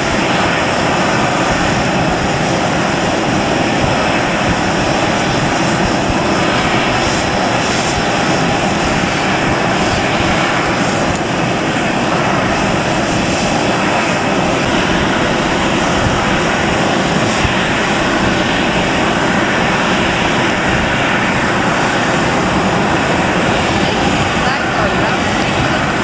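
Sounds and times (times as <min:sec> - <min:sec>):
jet aircraft engine rush: 0:00.0 - 0:26.0.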